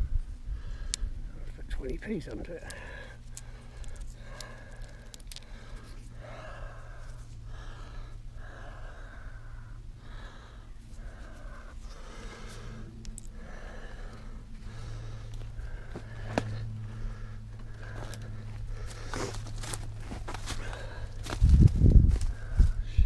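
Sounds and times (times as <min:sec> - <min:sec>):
person breathing heavily: 0:00.0 - 0:01.4, 0:02.5 - 0:23.0
low steady hum: 0:00.0 - 0:23.0.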